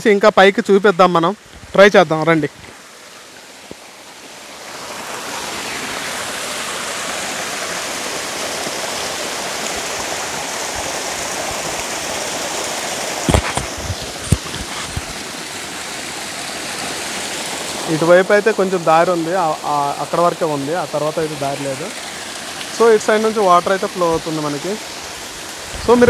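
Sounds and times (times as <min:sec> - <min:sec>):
waterfall splashing over rocks: 0:00.0 - 0:26.0.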